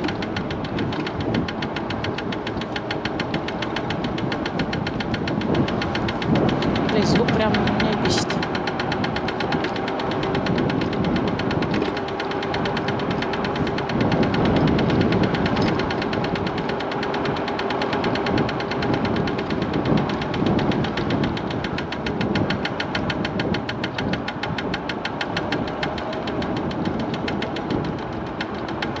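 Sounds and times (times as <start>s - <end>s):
rapid knocking from scooter wheel: 0.0s - 29.0s
road and wind rumble: 0.0s - 29.0s.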